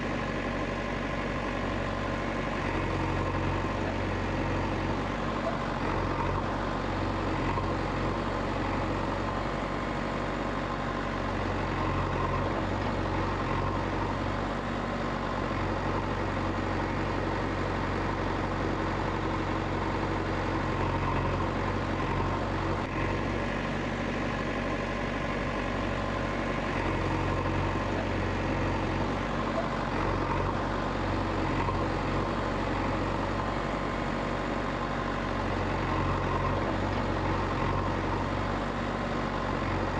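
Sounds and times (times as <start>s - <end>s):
low engine-like hum: 0.0s - 39.9s.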